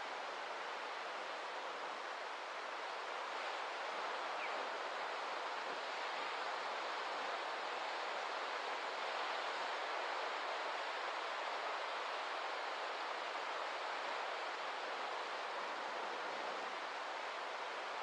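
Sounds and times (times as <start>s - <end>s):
steady rushing noise outdoors: 0.0s - 18.0s.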